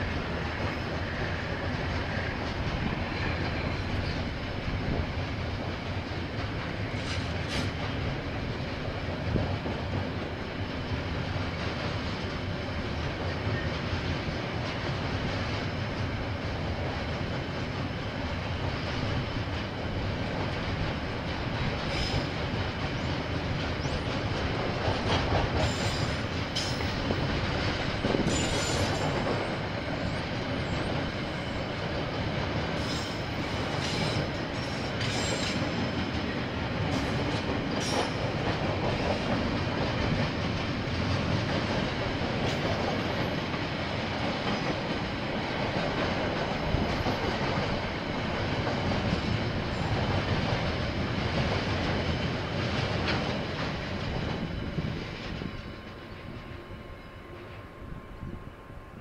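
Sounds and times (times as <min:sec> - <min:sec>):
train wagons rumbling and clattering: 0:00.0 - 0:59.0.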